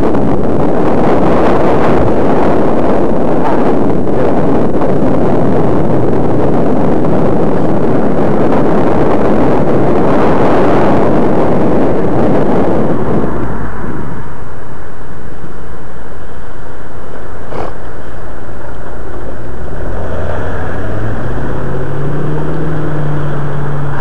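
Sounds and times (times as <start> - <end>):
road traffic: 0.0 - 24.0
wind rush on microphone: 0.0 - 24.0.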